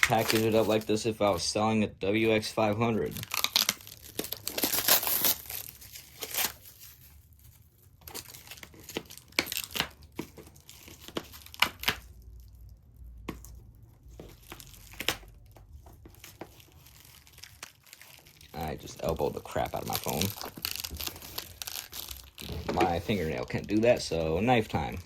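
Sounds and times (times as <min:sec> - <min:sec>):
packaging tearing and crinkling: 0:00.0 - 0:01.0, 0:02.9 - 0:25.0.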